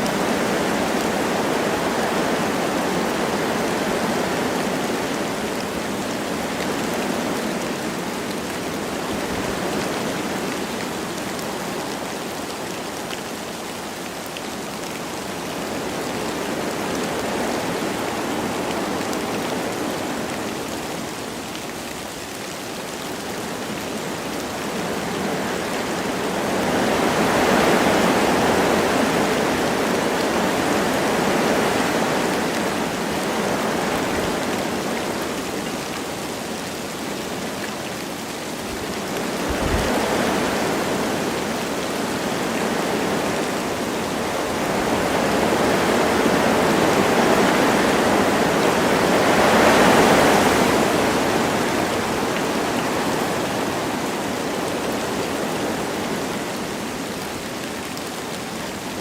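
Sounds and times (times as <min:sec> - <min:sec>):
light rain: 0:00.0 - 0:59.0
wind through forest trees: 0:00.0 - 0:59.0.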